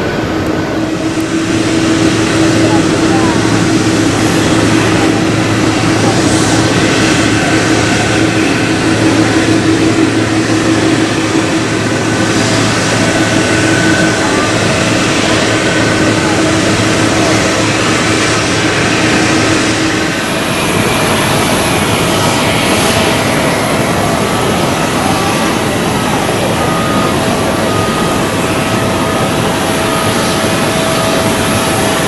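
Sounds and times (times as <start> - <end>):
high thin aircraft whine: 0.0 - 32.0
jet engines running: 0.0 - 32.0.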